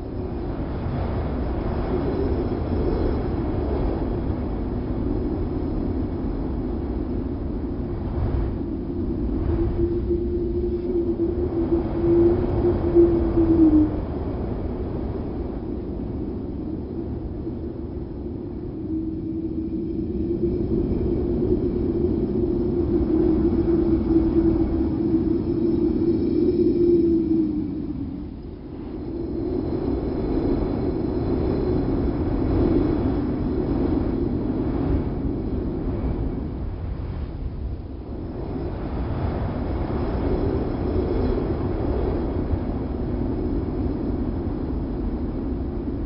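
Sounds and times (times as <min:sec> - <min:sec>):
wind rushing with deep rumble: 0:00.0 - 0:46.0.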